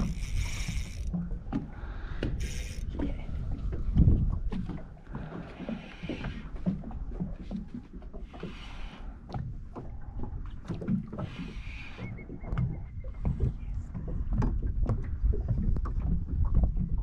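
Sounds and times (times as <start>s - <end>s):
wind rumble on microphone: 0.0s - 8.1s, 9.4s - 17.0s
waves lapping against boat hull: 0.0s - 17.0s.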